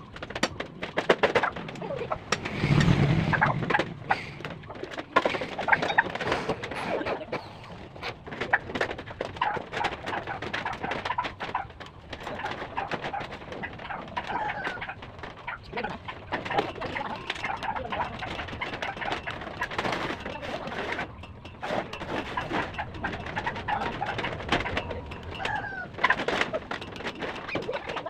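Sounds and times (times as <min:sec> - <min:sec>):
doves cooing: 0:00.0 - 0:28.0.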